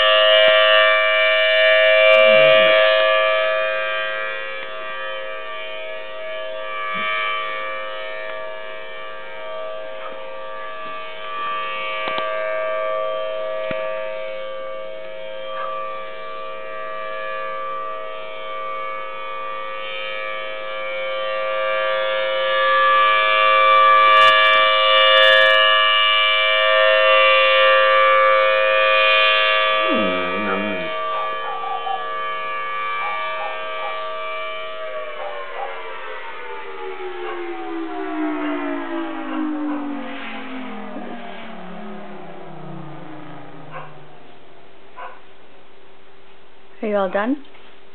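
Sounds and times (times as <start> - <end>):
siren steady tone: 0.0 - 45.8.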